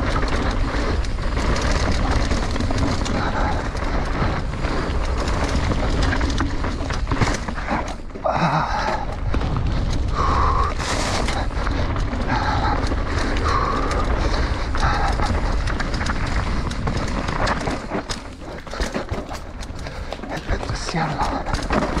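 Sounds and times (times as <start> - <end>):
bike rattling over bumps: 0.0 - 22.0.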